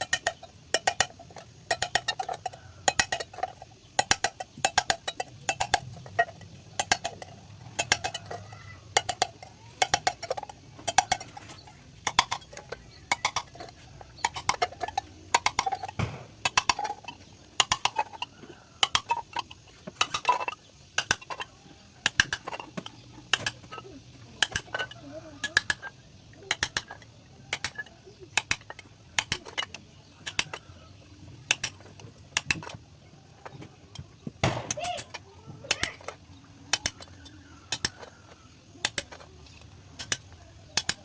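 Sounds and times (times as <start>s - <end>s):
hand tools clicking on sheet metal: 0.0s - 32.8s, 33.4s - 41.0s.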